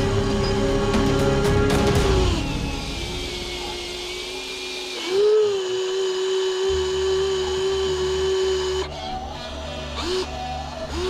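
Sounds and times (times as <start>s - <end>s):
toy electric motors whining: 0.0s - 11.0s.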